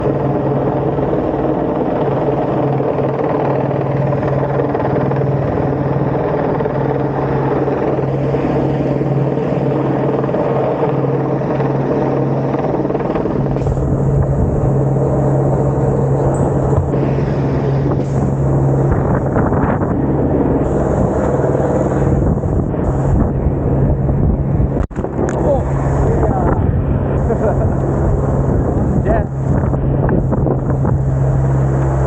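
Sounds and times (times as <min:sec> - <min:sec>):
helicopter rotor and turbine: 0:00.0 - 0:32.0
wind buffeting microphone: 0:00.0 - 0:32.0.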